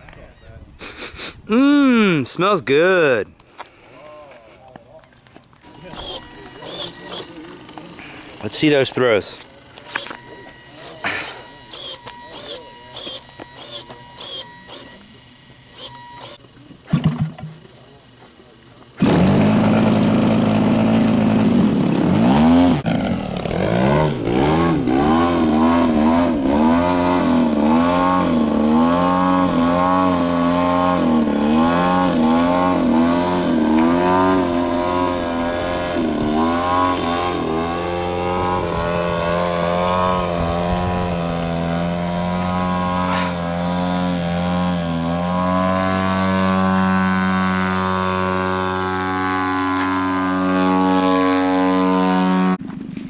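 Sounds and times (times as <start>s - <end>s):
model airplane engine running: 5.6s - 52.6s.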